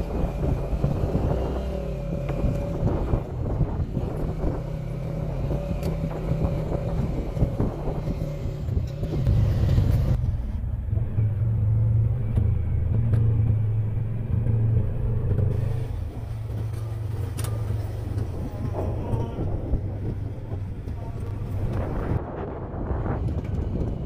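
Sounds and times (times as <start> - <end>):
engine running at low revs: 0.0 - 24.0.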